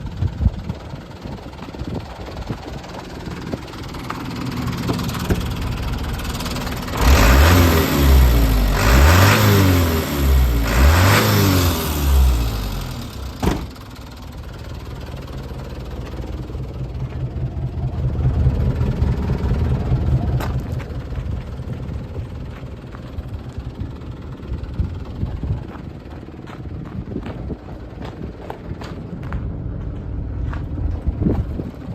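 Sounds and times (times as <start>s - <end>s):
diesel engine idling: 0.0s - 31.9s
diesel engine revving: 0.0s - 31.9s.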